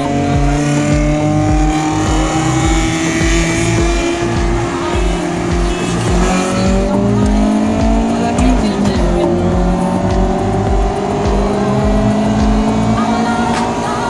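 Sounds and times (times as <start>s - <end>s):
music with thumping beat: 0.0s - 13.8s
car engine accelerating: 0.0s - 14.0s.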